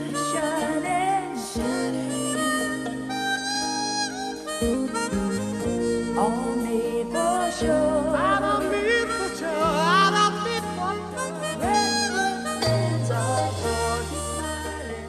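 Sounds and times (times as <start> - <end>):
harmonica solo: 0.0 - 15.0
soul-pop backing band: 0.0 - 15.0.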